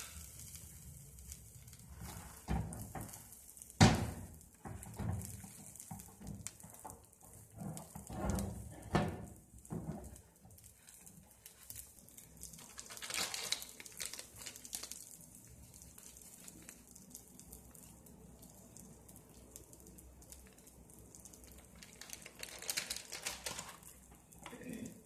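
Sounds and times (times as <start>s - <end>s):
omelette sizzling in oil: 0.0s - 25.0s.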